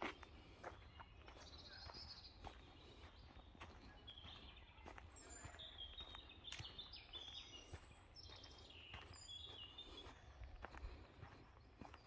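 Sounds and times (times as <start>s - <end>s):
birds chirping: 0.0s - 12.0s
footsteps on dirt path: 0.0s - 12.0s.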